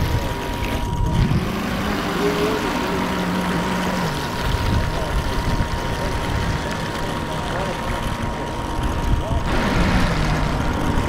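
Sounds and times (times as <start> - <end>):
model boat motor whine: 0.0 - 11.0.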